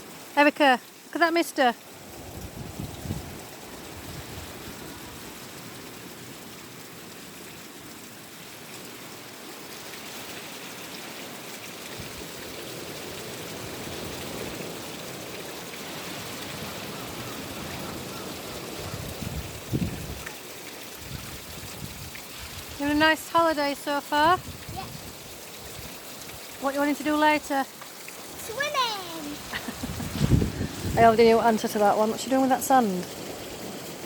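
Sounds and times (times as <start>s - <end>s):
small waterfall splashing: 0.0s - 34.0s.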